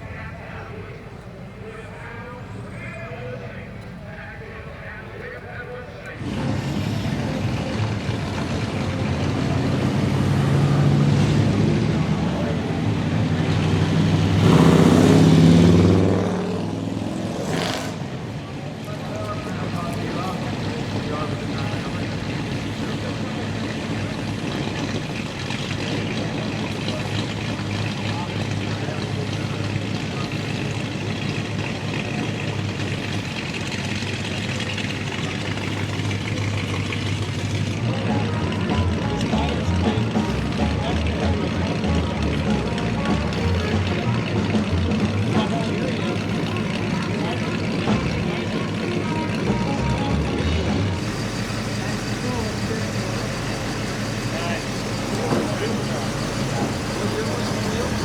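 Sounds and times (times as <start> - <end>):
car engine rumbling by: 0.0 - 58.0.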